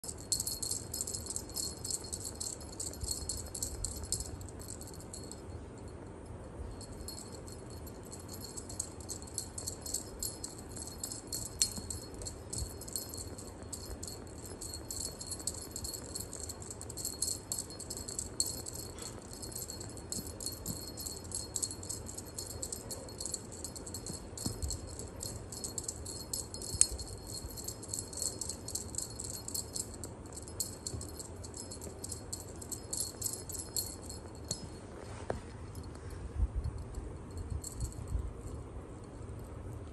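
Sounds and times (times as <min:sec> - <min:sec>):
cat toy jingling and rattling: 0:00.0 - 0:05.6, 0:06.7 - 0:36.0, 0:36.7 - 0:38.6.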